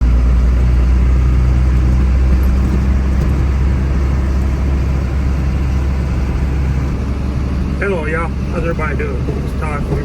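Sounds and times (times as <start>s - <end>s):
truck engine and road drone: 0.0s - 10.0s.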